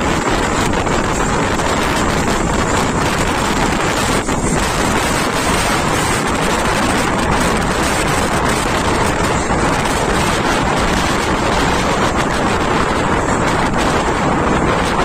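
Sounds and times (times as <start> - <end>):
train running noise: 0.0 - 15.0
wind rushing on microphone: 0.0 - 15.0.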